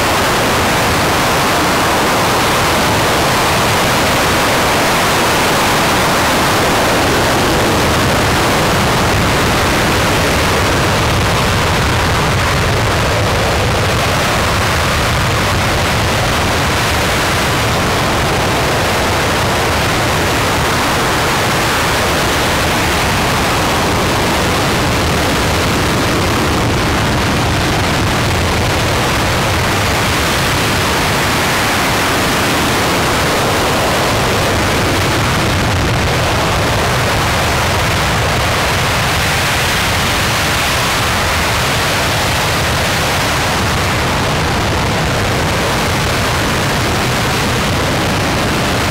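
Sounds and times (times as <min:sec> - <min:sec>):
rocket engine roaring: 0:00.0 - 0:48.9.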